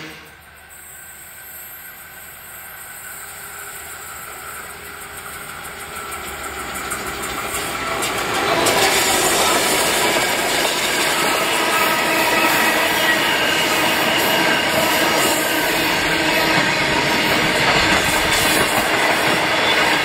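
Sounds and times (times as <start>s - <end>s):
diesel locomotive passing: 0.0s - 20.0s.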